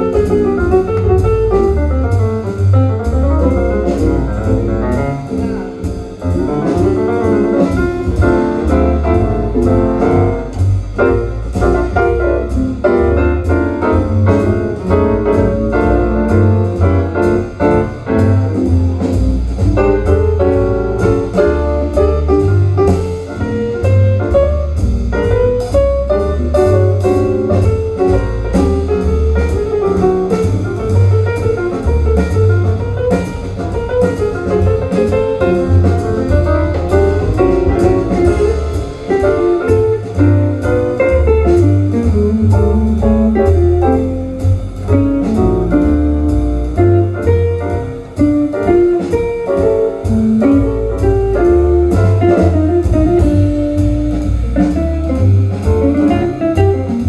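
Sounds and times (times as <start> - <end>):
instrumental jazz over loudspeakers: 0.0 - 57.0
prominent bass line: 0.0 - 57.0.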